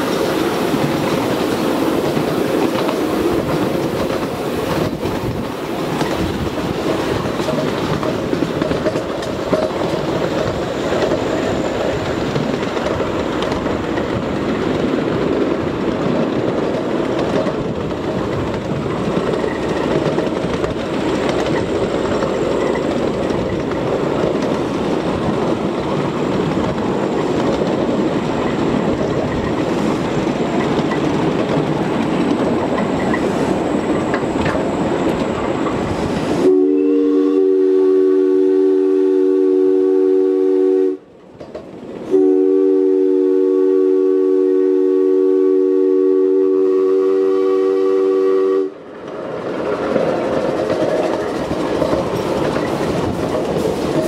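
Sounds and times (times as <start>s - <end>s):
train rumbling and clattering: 0.0s - 54.0s.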